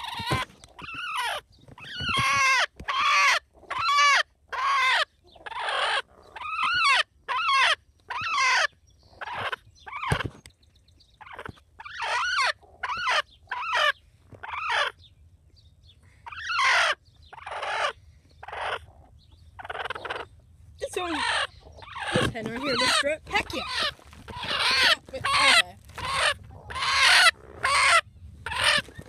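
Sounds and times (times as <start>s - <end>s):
chickens calling: 0.0s - 10.5s, 11.2s - 15.2s, 16.2s - 29.0s.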